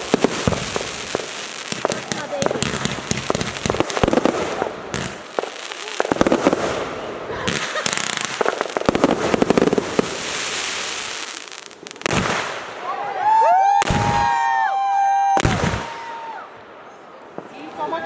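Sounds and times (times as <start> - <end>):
firework bangs: 0.0 - 16.4
fireworks crackling: 0.0 - 16.4
whistling fireworks shrieking: 0.0 - 17.0.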